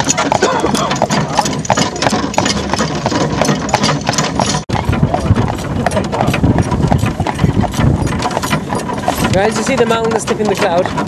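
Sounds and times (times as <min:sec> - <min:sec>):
cart wheels rumbling: 0:00.0 - 0:11.0
horse hooves on pavement: 0:00.0 - 0:11.0.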